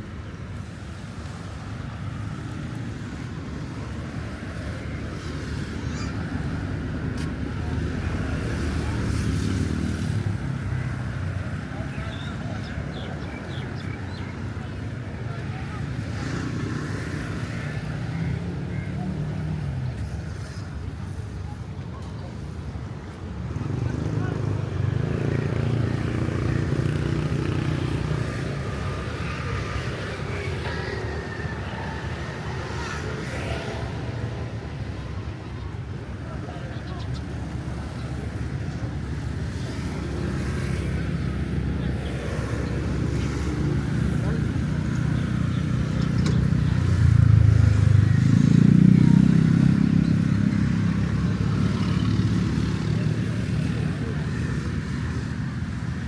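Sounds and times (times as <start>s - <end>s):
street background noise: 0.0s - 56.0s.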